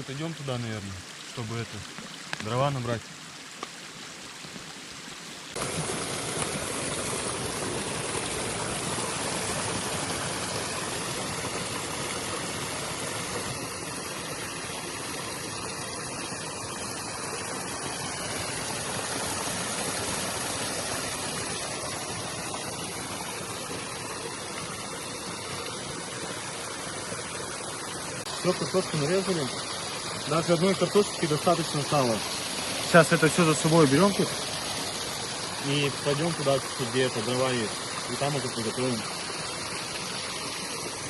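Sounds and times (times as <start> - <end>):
spring water running: 0.0 - 41.0.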